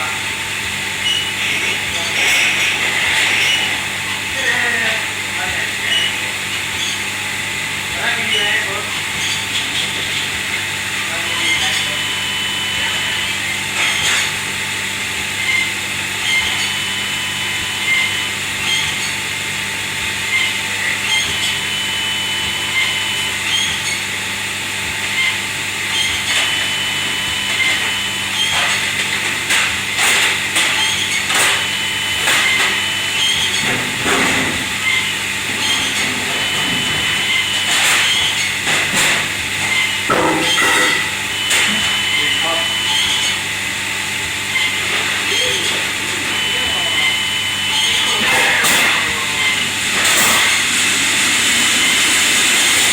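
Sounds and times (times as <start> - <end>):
kitchen machinery humming: 0.0 - 52.9.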